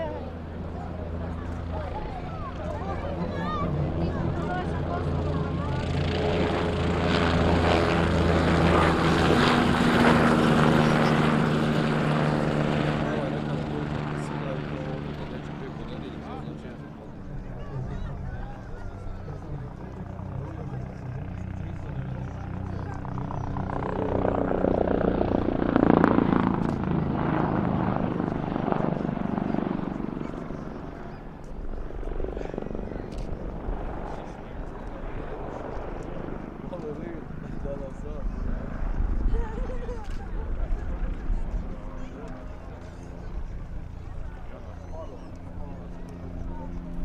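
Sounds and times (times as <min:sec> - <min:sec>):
propeller aircraft engine droning: 0:00.0 - 0:47.0.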